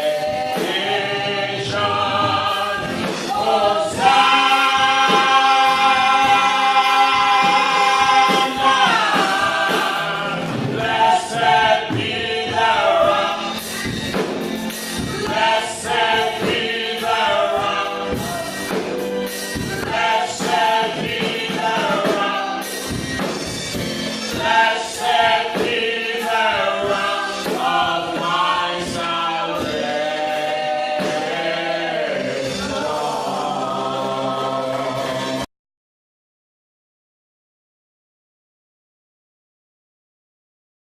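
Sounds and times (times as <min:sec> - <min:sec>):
choir singing a gospel song: 0:00.0 - 0:35.5.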